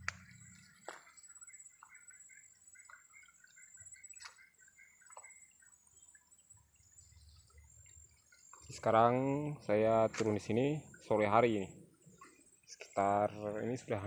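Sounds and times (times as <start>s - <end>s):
stream trickling over stones: 0.0s - 14.0s.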